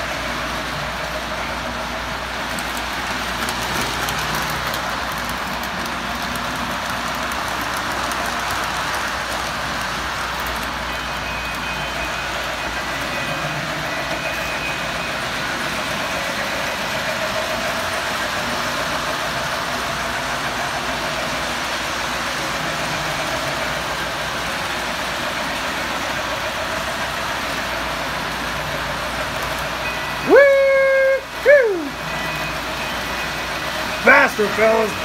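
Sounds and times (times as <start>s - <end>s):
model trains whirring on track: 0.0s - 35.0s.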